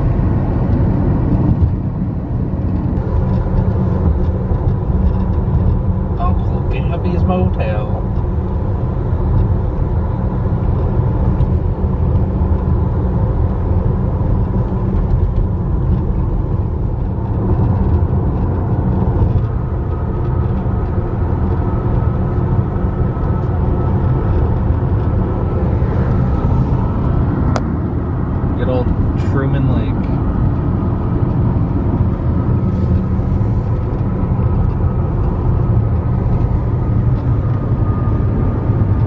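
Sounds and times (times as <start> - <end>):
tyre and engine rumble: 0.0 - 39.0.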